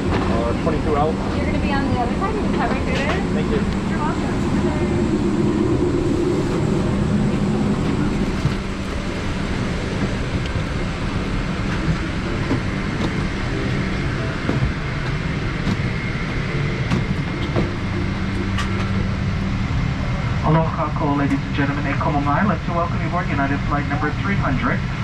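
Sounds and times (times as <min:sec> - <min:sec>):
aircraft cabin ventilation drone: 0:00.0 - 0:25.0.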